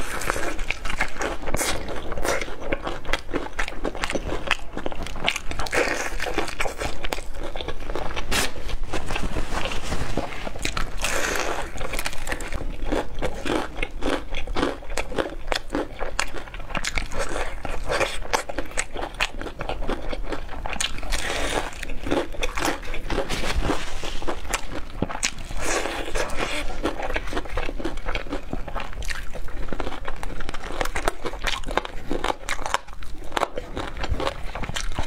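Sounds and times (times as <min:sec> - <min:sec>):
fried chicken crunching when chewed: 0:00.0 - 0:35.0.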